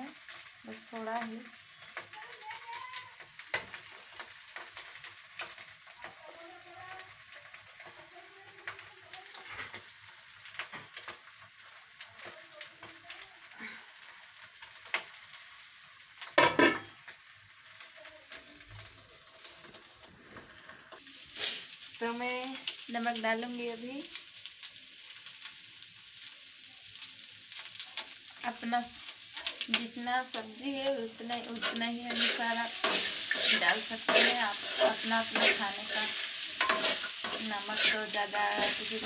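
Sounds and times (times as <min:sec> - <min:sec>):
food sizzling in oil: 0:00.0 - 0:39.0.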